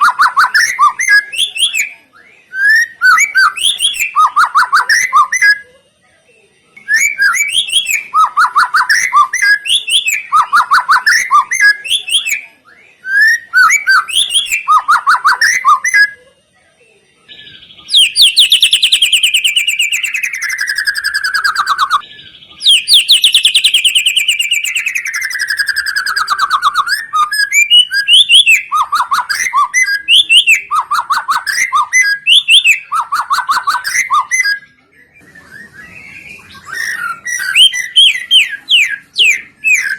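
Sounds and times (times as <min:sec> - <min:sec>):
songbird chirping: 0:00.0 - 0:05.7, 0:06.8 - 0:16.2, 0:17.3 - 0:39.9.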